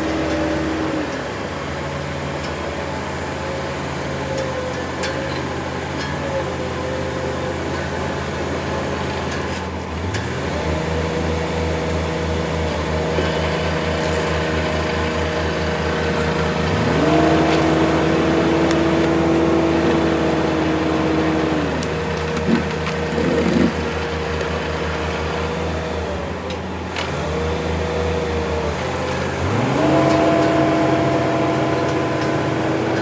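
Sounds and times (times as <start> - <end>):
diesel engine revving: 0.0 - 4.0, 9.9 - 33.0.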